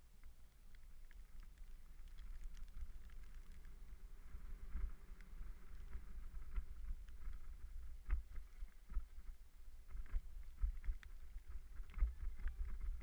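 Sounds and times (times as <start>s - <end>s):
wind rumble on microphone: 0.7s - 13.0s.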